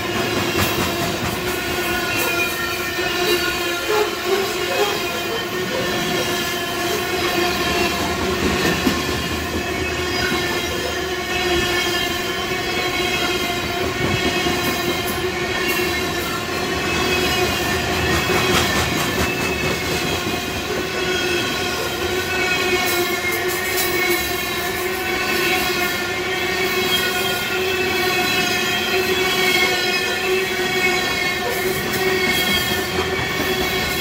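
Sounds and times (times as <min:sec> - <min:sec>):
freight train wheels rumbling on rail: 0:00.0 - 0:34.0
wheels clacking on rail: 0:00.0 - 0:34.0.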